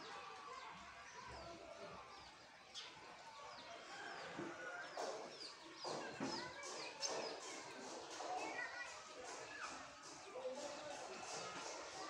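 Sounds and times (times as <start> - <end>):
faint voices: 0.0 - 12.0
small birds chirping: 0.0 - 12.0.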